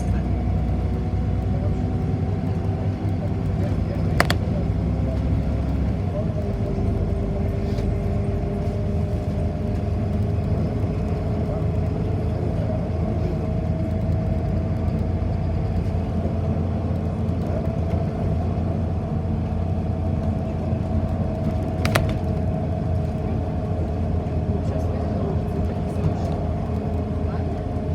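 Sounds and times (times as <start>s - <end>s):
bus rumbling: 0.0s - 27.9s.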